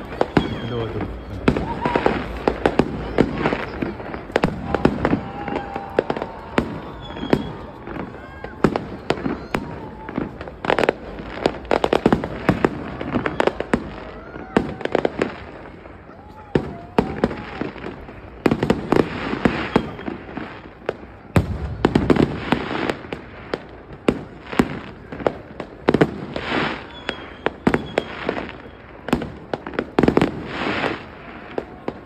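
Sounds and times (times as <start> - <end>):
firework crackling: 0.0 - 32.0.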